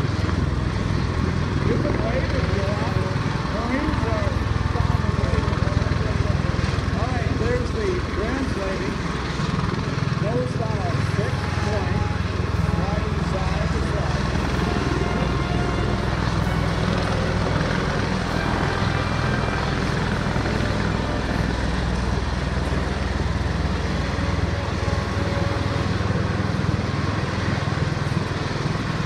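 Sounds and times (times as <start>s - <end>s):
aircraft rotors droning: 0.0s - 29.0s.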